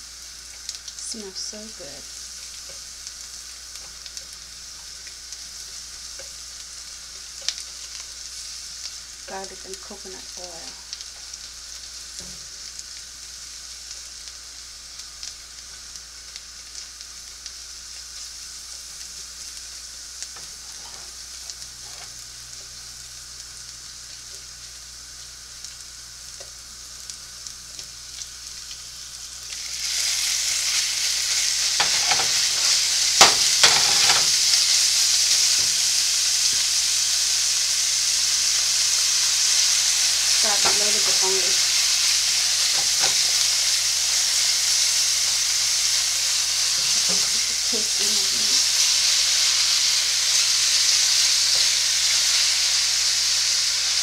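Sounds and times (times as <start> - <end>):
garlic sizzling in oil: 0.0 - 54.0
meat sizzling in hot oil: 0.0 - 54.0.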